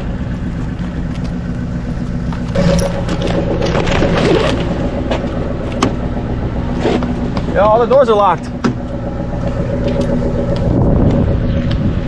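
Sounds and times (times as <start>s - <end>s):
gear clicking and knocking: 0.0s - 11.8s
truck engine idling: 0.0s - 12.0s
steady higher tone: 1.6s - 12.0s.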